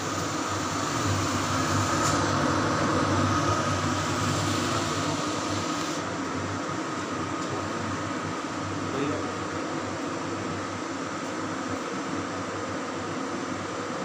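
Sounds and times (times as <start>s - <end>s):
range hood fan running: 0.0s - 14.0s.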